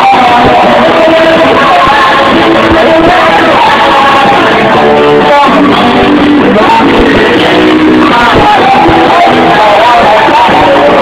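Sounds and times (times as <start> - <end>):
man singing loudly: 0.0 - 11.0
music: 0.0 - 11.0.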